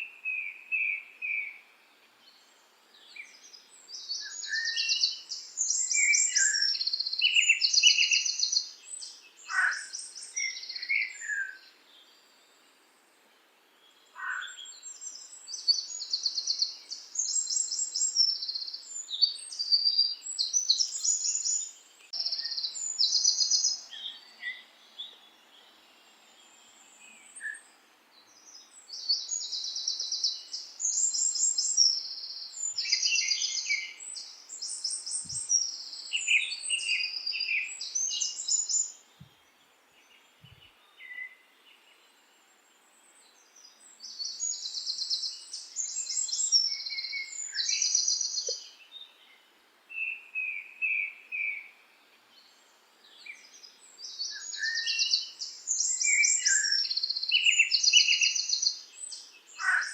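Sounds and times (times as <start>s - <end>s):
birds chirping: 2.3s - 12.4s, 13.8s - 59.9s.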